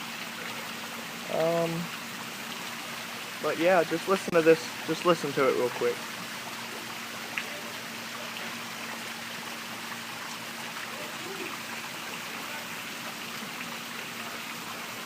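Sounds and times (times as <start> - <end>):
rain falling: 0.0 - 15.0
running water: 0.0 - 15.0.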